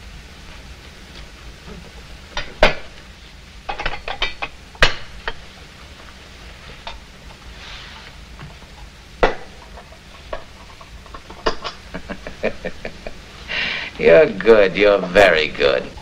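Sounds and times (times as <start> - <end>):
fire irons clanking on metal grate: 1.1 - 16.0.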